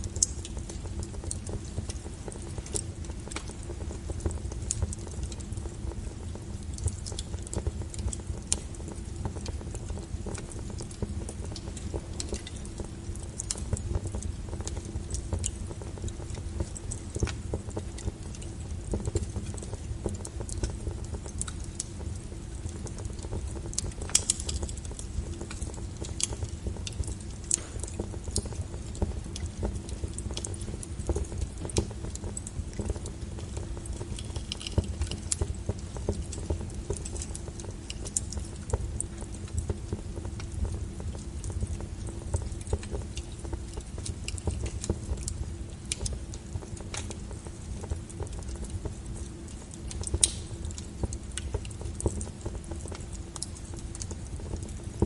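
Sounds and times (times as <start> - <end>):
fire crackling and popping: 0.0 - 55.0
fire rumbling: 0.0 - 55.0.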